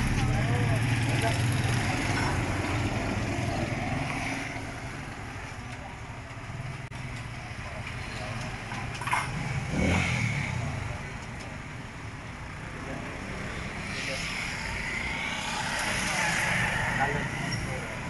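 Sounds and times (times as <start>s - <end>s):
motor traffic hum: 0.0s - 18.0s.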